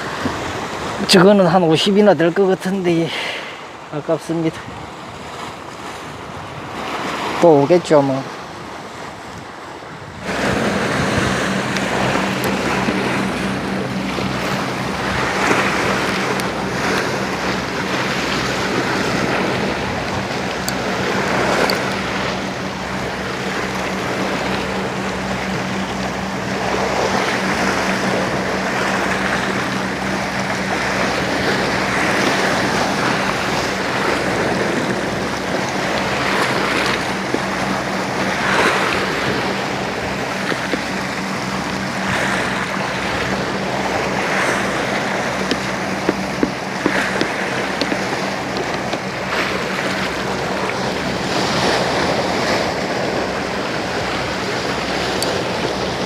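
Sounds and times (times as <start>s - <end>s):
sea waves washing: 0.0s - 56.0s
wind buffeting microphone: 2.6s - 56.0s
steady low hum: 8.3s - 56.0s.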